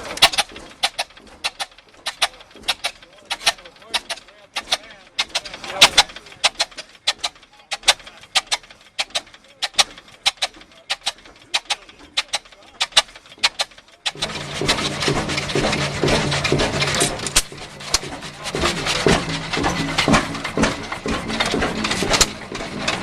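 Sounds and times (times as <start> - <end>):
loud running engine hum: 0.0 - 23.0
old engine firing with pops: 0.0 - 23.0
voices: 0.0 - 23.0.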